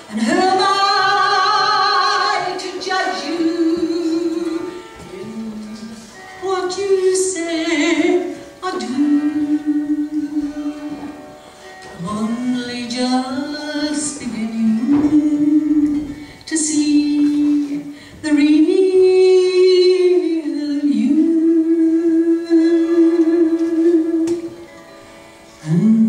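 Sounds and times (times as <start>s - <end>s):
woman singing a slow ballad: 0.0s - 11.1s, 11.9s - 24.6s, 25.6s - 26.0s.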